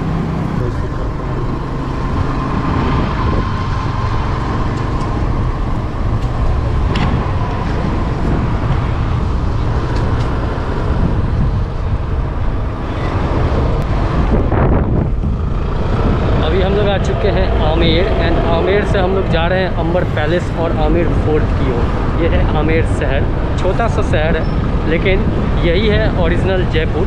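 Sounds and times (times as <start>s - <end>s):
scooter road noise: 0.0s - 27.0s
wind rush: 1.4s - 27.0s.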